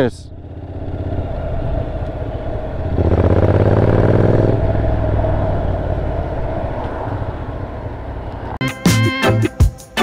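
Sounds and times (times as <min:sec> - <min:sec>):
motorcycle engine: 0:00.0 - 0:08.6
road and wind noise: 0:00.0 - 0:08.7.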